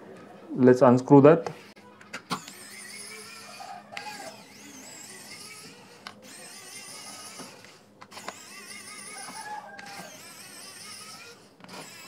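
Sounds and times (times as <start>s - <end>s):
electric screwdriver motor whine: 1.6s - 12.0s.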